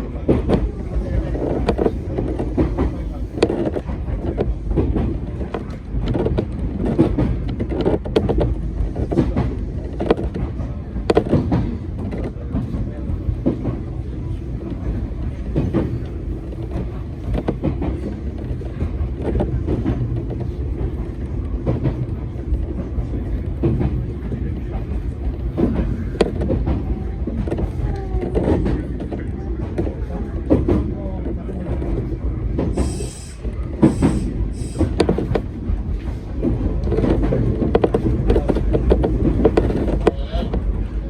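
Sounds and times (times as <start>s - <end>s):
train rumble from inside car: 0.0s - 41.0s.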